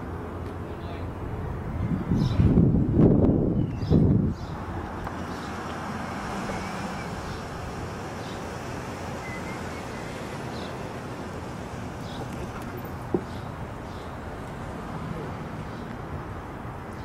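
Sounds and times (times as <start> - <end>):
distant traffic: 0.0 - 17.0
wind: 0.0 - 17.0.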